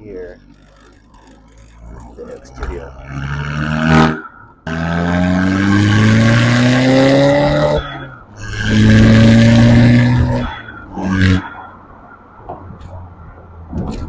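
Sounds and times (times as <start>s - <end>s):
car engine accelerating hard: 0.4s - 11.8s.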